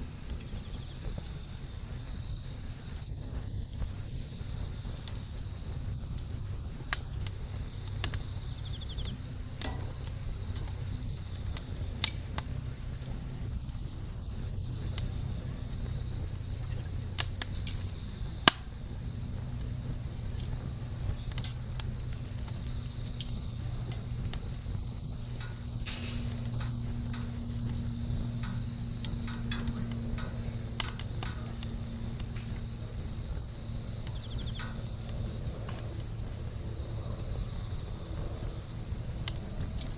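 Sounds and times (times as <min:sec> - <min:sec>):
campfire crackling and popping: 0:00.0 - 0:39.9
high insect trill: 0:00.0 - 0:39.9
low steady rumble: 0:00.0 - 0:39.9.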